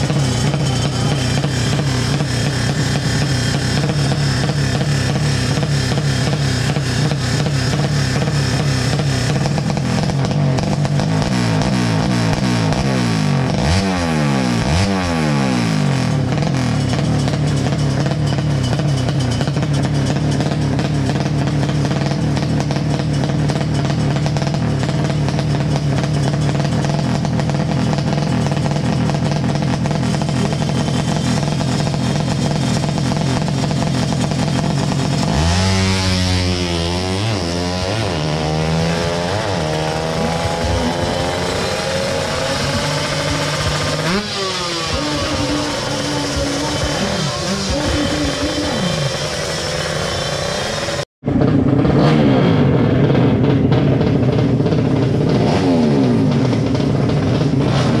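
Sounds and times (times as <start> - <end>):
motorcycle accelerating away: 0.0 - 58.0
motorcycle engine revving: 0.0 - 58.0.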